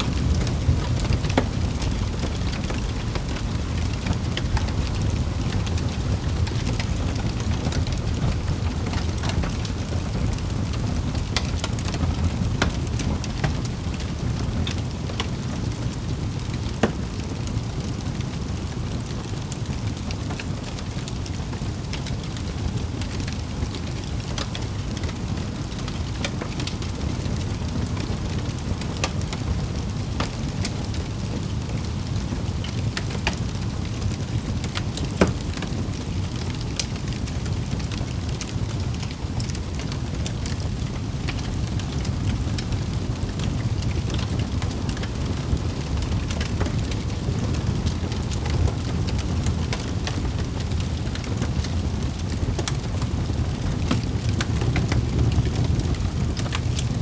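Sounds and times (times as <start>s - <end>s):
low rumble of burning fire: 0.0s - 57.0s
small fire crackles: 0.0s - 57.0s.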